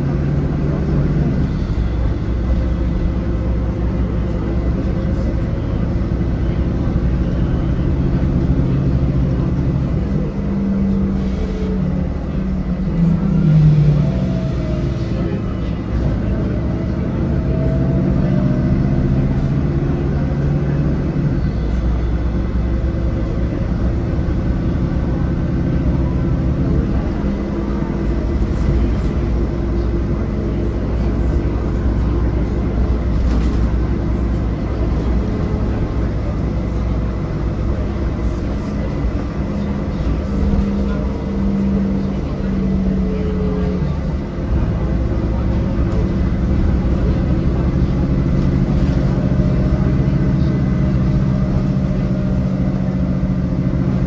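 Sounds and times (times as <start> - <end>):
bus body rattling: 0.0 - 54.0
bus engine running: 0.0 - 54.0
road and tyre noise: 0.0 - 54.0.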